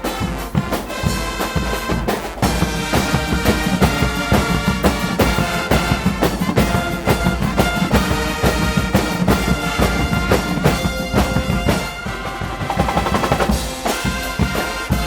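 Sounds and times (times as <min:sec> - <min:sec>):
drums keeping a beat: 0:00.0 - 0:15.0
trumpets and trombones: 0:00.0 - 0:15.0.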